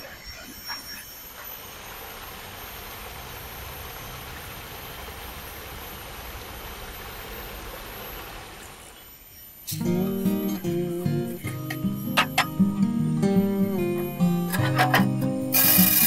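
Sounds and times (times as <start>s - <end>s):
high insect tones: 0.0s - 16.0s.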